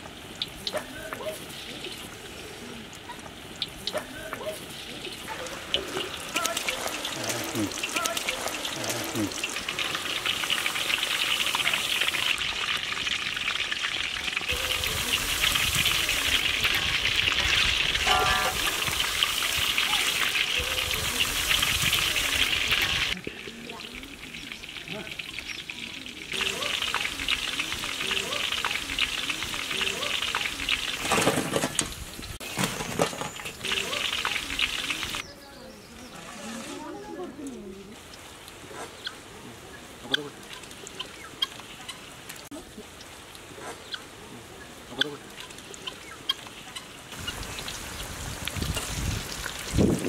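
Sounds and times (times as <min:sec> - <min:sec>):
chicken deep-frying in oil: 0:00.0 - 0:35.3, 0:38.0 - 0:50.0.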